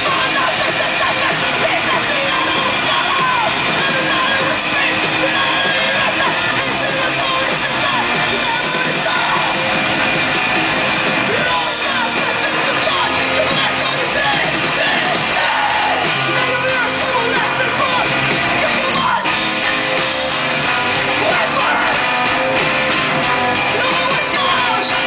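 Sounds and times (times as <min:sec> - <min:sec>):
shouted vocals: 0:00.0 - 0:10.1, 0:11.2 - 0:25.0
live rock band playing: 0:00.0 - 0:25.0.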